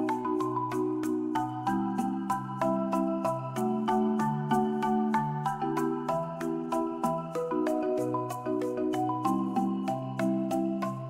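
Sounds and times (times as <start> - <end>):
mallet percussion music: 0.0 - 11.0.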